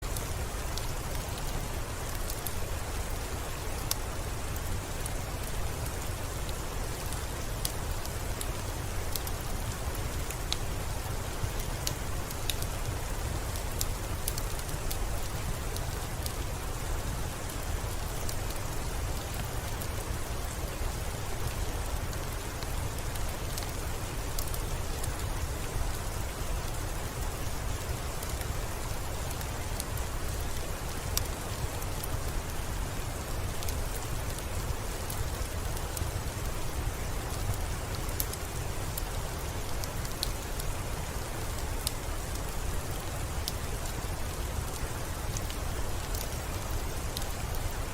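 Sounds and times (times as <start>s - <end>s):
soft rain: 0.0s - 47.9s
wood fire crackling: 0.0s - 47.9s.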